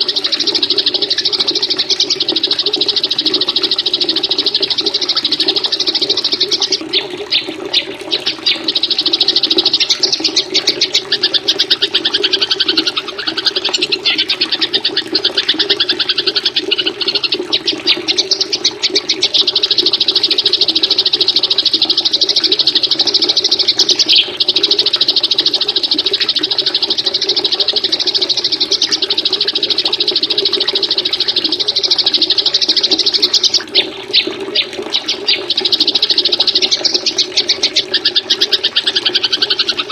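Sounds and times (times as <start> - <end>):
rushing water: 0.0 - 39.9
songbird trilling chatter: 0.0 - 39.9.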